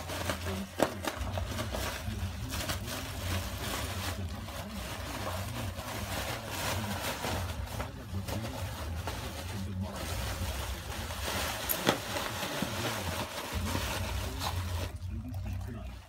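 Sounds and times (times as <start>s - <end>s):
plastic packing crinkling: 0.0s - 15.9s.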